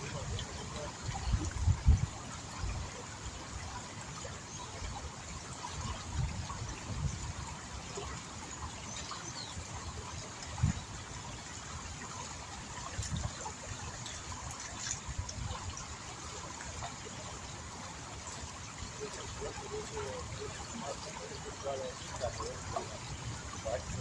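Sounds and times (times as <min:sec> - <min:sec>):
river water trickling: 0:00.0 - 0:24.0.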